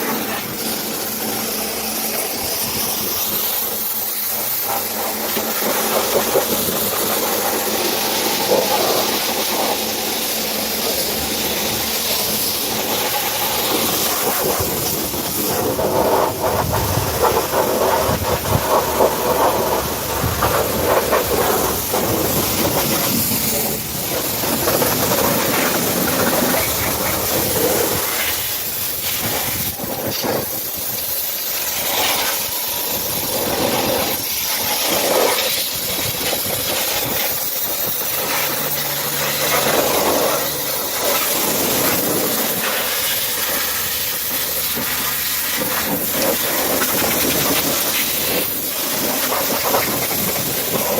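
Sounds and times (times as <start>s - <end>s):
pressure washer spray hissing: 0.0s - 50.9s.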